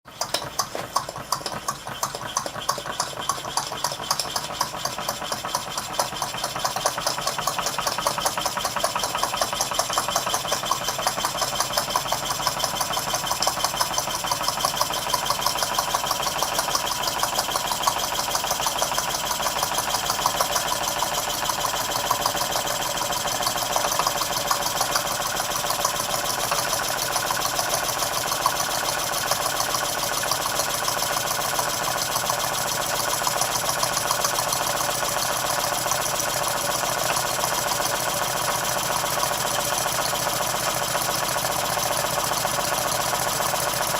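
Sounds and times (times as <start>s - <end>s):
model steam engine clicking: 0.1s - 43.9s.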